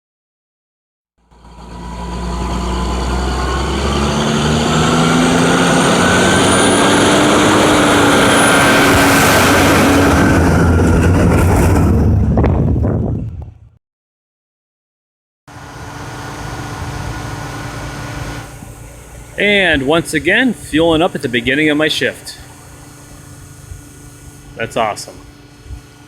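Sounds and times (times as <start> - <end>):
diesel engine accelerating: 1.2 - 13.8, 15.5 - 26.0.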